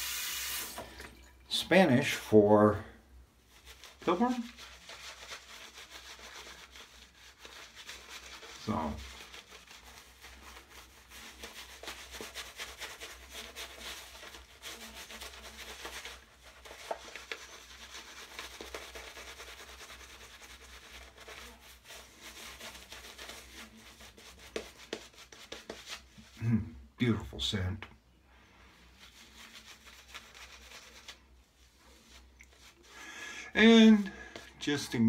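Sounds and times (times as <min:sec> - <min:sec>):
shaving brush scrubbing lather: 0:00.0 - 0:00.8, 0:03.4 - 0:26.4, 0:28.9 - 0:35.0.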